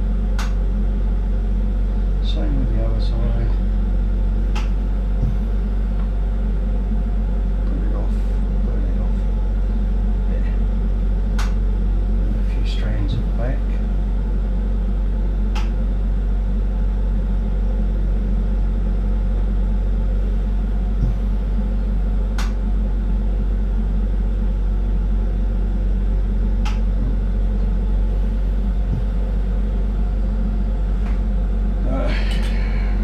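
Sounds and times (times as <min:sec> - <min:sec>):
torch burning with low rumble: 0:00.0 - 0:33.0.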